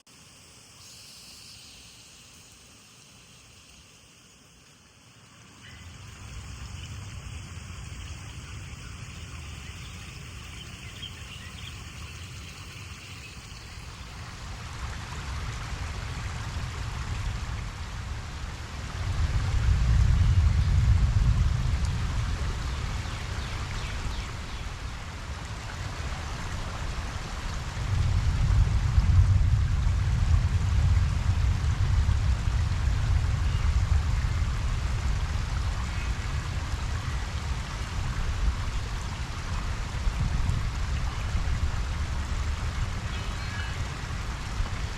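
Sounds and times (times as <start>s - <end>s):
rain falling on a pond: 1.7s - 44.9s.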